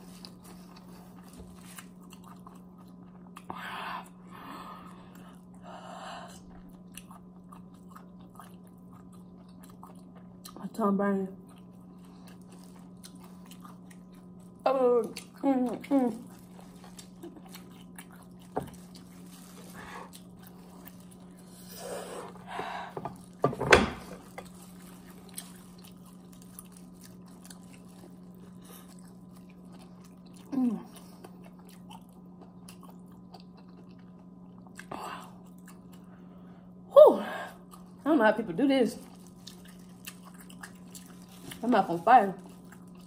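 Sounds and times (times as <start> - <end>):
chewing and biting seafood: 0.0 - 5.6, 6.3 - 10.6, 11.4 - 15.4, 16.2 - 22.5, 24.2 - 36.3, 39.0 - 41.6, 42.4 - 43.0
steady low hum: 0.0 - 43.0.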